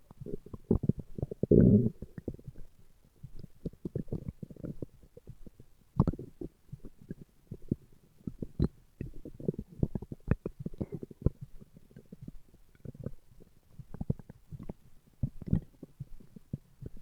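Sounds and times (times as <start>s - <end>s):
stomach growling: 0.1s - 17.0s.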